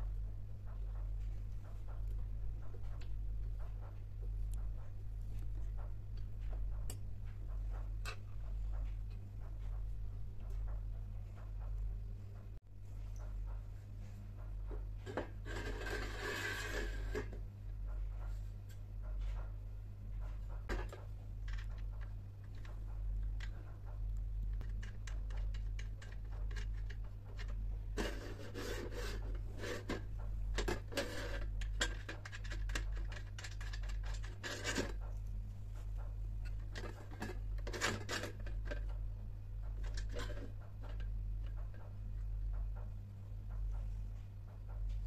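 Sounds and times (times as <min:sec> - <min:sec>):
rubbing and scratching: 0:00.0 - 0:45.0
steady low hum: 0:00.0 - 0:45.0.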